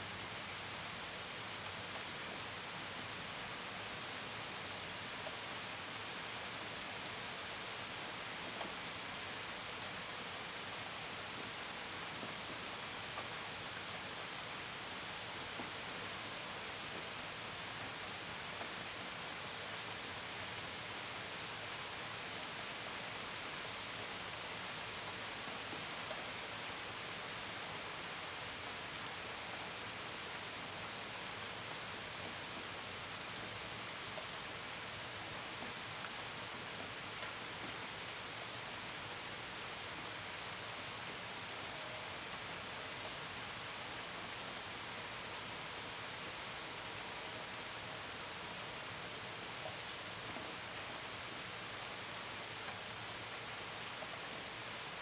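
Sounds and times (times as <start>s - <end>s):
gentle rain: 0.0s - 55.0s.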